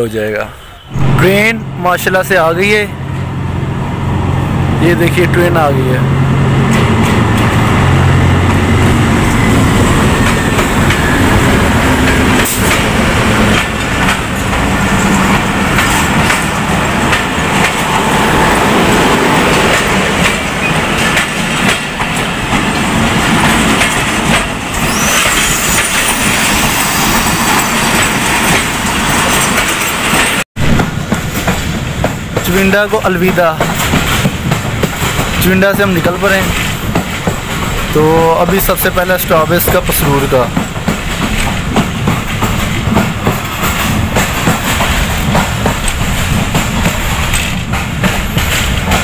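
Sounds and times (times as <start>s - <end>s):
coaches rumbling on track: 0.0s - 49.0s
diesel locomotive engine: 0.0s - 49.0s.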